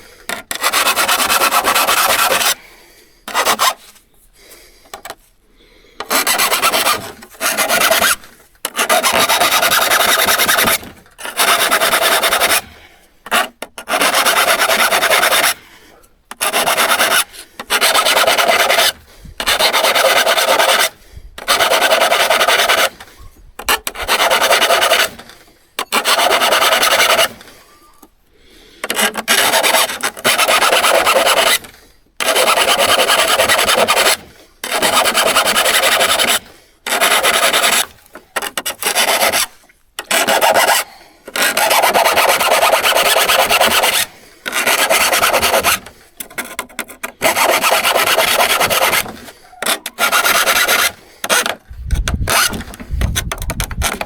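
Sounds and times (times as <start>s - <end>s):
metal file rasping on saw teeth: 0.3s - 2.6s, 3.3s - 4.0s, 6.0s - 15.6s, 16.3s - 28.1s, 28.8s - 54.0s.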